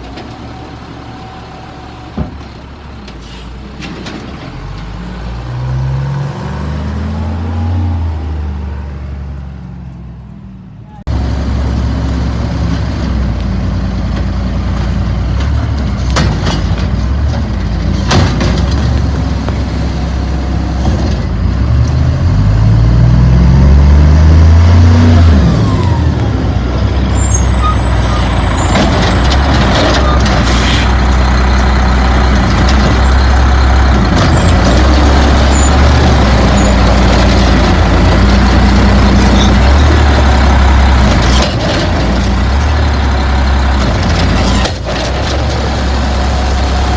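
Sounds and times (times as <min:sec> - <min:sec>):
garbage truck diesel engine revving: 0:00.0 - 0:09.6, 0:11.1 - 0:46.9.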